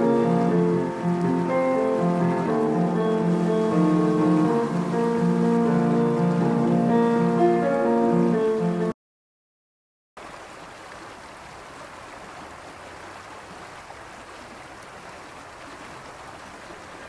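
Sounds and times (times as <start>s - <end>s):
stream running water: 0.0s - 8.9s, 10.2s - 17.0s.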